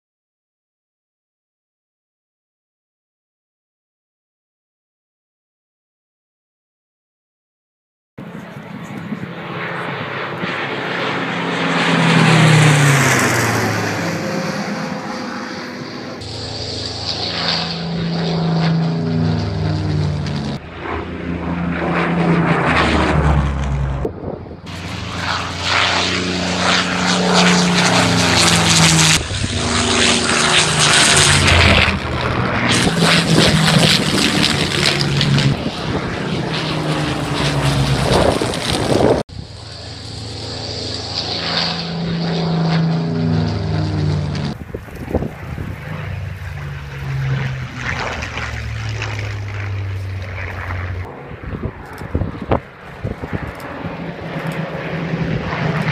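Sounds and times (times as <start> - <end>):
propeller plane engines droning overhead: 8.2 - 55.9.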